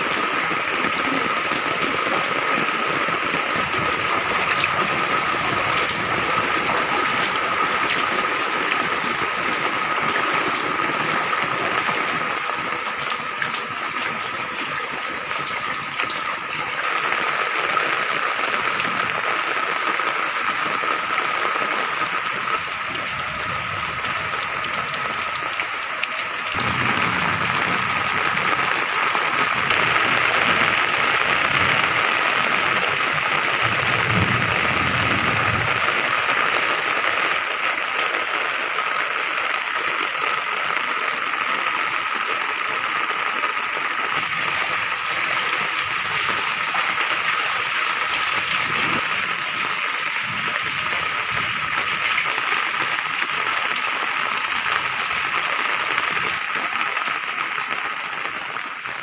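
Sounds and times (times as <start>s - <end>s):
heavy rain on paving and roofs: 0.0s - 59.0s
rainwater running: 0.0s - 59.0s.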